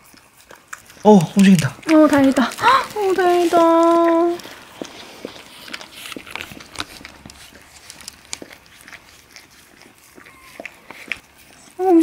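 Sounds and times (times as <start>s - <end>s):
dog mouth clicks and smacks: 0.0s - 2.6s, 3.6s - 11.4s.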